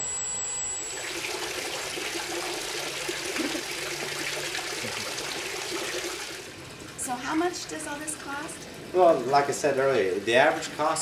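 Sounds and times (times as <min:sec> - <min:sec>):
pool water splashing and trickling: 0:00.8 - 0:11.0.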